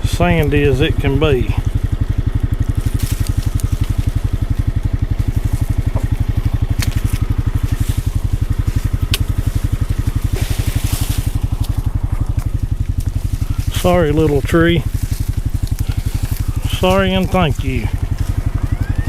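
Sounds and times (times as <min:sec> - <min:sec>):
engine idling: 0:00.0 - 0:19.0
rustle: 0:01.5 - 0:19.0.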